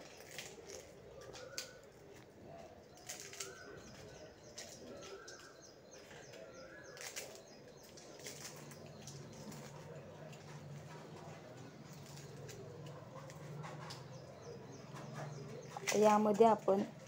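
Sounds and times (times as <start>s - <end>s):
fried flatbread cracking: 0.0s - 14.1s.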